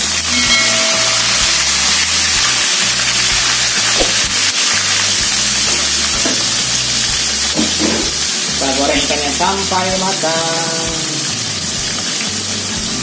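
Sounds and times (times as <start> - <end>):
background music with bass line: 0.0 - 13.0
oil sizzling: 0.0 - 13.0.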